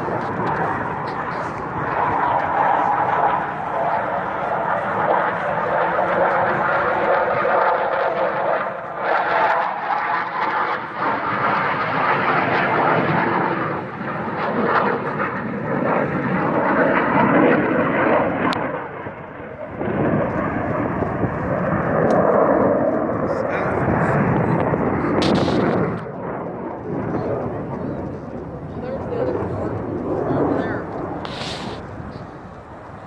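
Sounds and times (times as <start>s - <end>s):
jet flying past: 0.0s - 33.0s.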